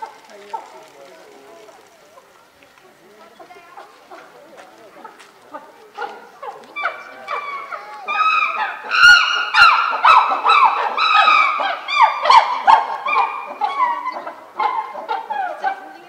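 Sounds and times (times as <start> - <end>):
chimpanzees calling: 2.0 - 16.0.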